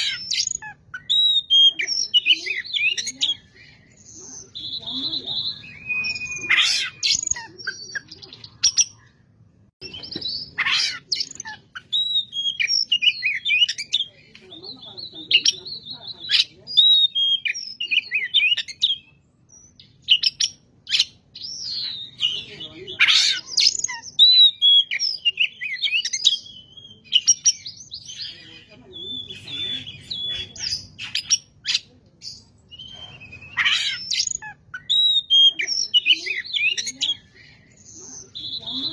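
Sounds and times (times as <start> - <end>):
bird whistling song: 0.0 - 9.1, 9.8 - 38.9.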